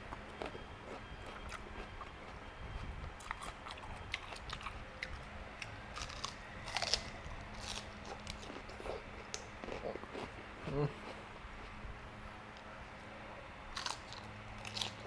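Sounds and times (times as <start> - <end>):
lettuce crunching: 0.1 - 11.8, 13.7 - 15.0.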